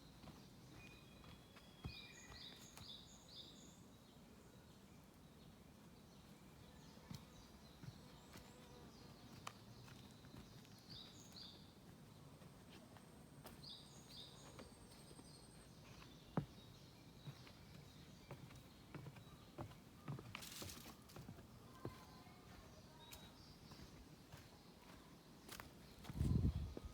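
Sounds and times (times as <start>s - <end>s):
footsteps on forest path: 0.0s - 3.4s, 6.8s - 26.9s
songbirds chirping: 0.0s - 26.9s.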